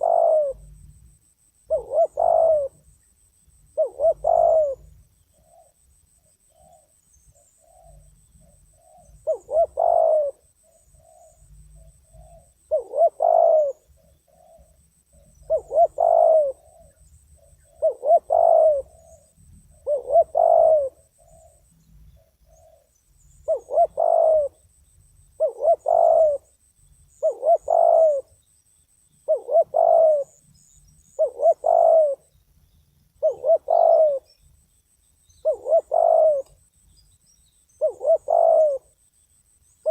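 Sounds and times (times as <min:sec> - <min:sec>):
dove cooing: 0:00.0 - 0:01.0, 0:01.6 - 0:03.0, 0:03.7 - 0:24.7, 0:25.4 - 0:28.4, 0:29.2 - 0:32.4, 0:33.2 - 0:34.4, 0:35.4 - 0:36.6, 0:37.8 - 0:39.0.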